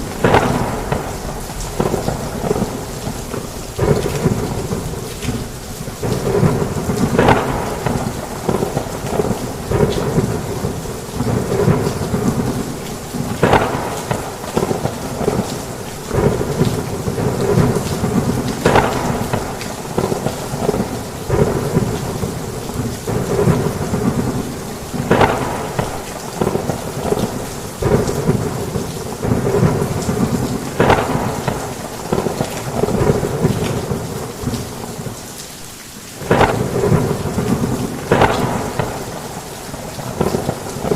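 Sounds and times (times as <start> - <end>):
thunder rumbling: 0.0 - 35.2, 36.2 - 40.9
heavy rain drumming on a roof: 0.0 - 40.9
sharp rain splashes: 0.0 - 40.9.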